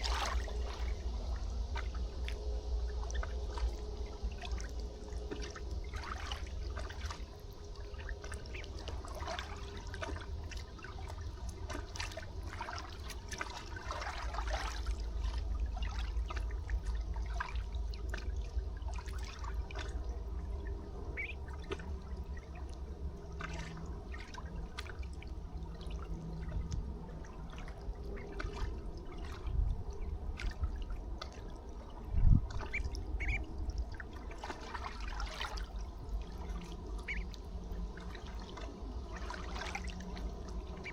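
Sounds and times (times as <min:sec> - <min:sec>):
river water trickling and lapping: 0:00.0 - 0:40.9
small water splashes: 0:00.0 - 0:40.9
steady low rumble: 0:00.0 - 0:40.9.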